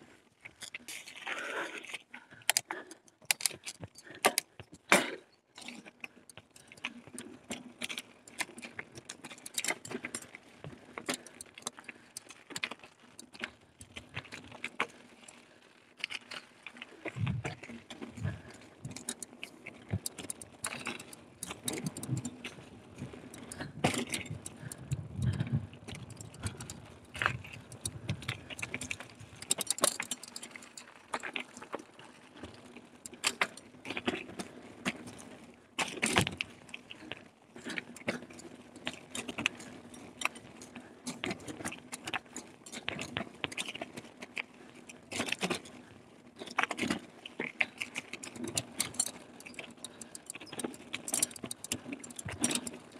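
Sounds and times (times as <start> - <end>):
mountain bike rattling on trail: 0.4 - 52.9.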